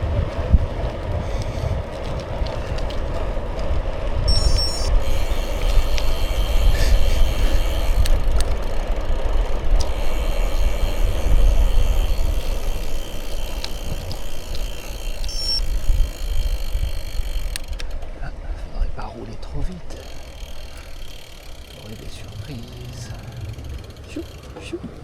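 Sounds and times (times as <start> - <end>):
bicycle clicks and rattles: 0.0 - 25.0
bicycle tyres rolling on road: 0.0 - 25.0
wind buffeting microphone: 0.0 - 25.0.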